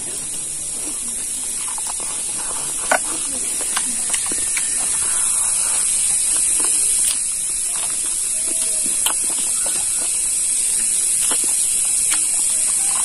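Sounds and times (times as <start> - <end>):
chewing meat: 0.0 - 13.0
steady high-pitched hiss: 0.0 - 13.0.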